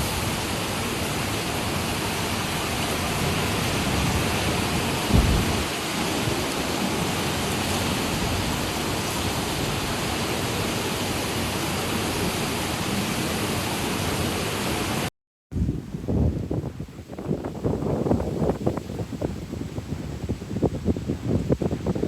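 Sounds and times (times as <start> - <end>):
heavy wind-driven rain: 0.0 - 22.0
strong wind gusts buffeting microphone: 0.0 - 22.0.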